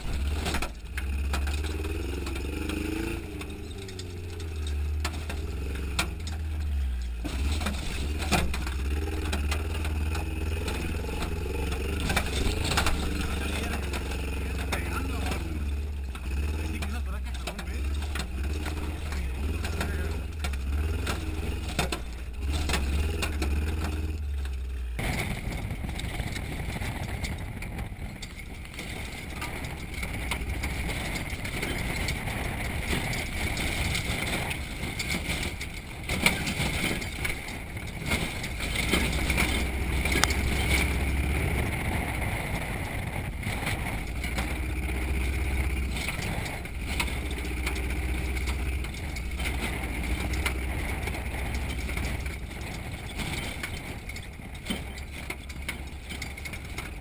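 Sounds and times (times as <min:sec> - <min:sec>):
body and suspension knocks and rattles: 0:00.0 - 0:57.0
road and wind noise: 0:00.0 - 0:57.0
truck engine rumbling: 0:00.0 - 0:57.0.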